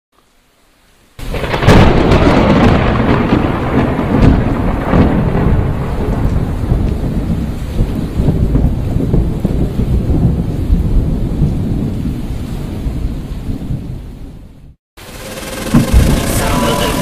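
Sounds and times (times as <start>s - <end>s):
thunder crack and rumble: 1.2s - 14.4s, 15.5s - 17.0s.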